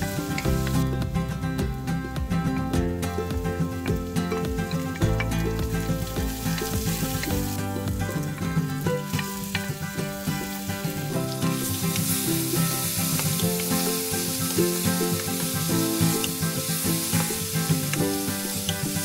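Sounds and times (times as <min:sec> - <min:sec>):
background music: 0:00.0 - 0:19.0
vegetables sizzling in wok: 0:00.0 - 0:19.0.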